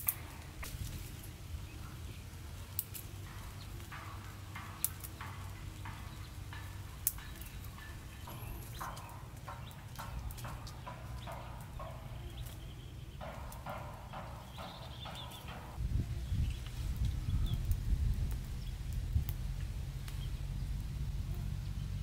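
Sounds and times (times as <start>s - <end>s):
fire of leaves crackling: 0.0s - 22.0s
sharp pops from fire: 2.6s - 15.8s, 16.4s - 21.4s.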